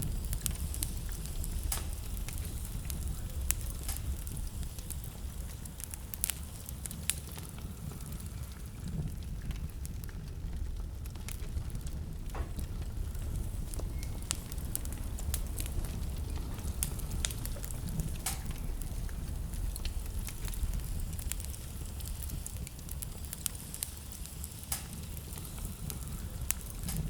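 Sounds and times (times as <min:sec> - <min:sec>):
low fire rumble: 0:00.0 - 0:27.0
wood fire crackling and popping: 0:00.0 - 0:27.0.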